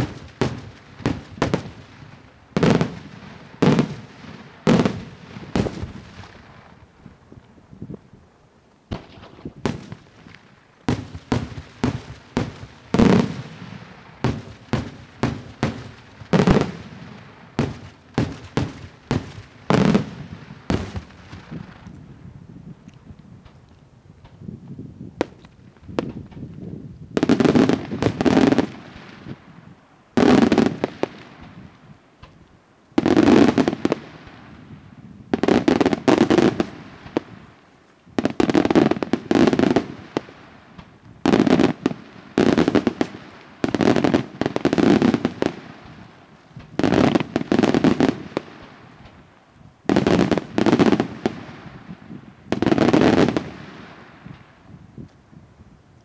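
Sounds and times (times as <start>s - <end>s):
fireworks bursting with bangs: 0.0s - 6.8s, 8.9s - 21.9s, 25.1s - 29.6s, 30.2s - 32.4s, 33.0s - 37.6s, 38.2s - 54.6s.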